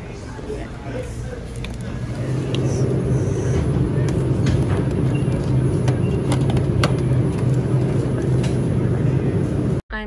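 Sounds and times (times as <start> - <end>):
drink cooler humming: 0.0 - 9.8.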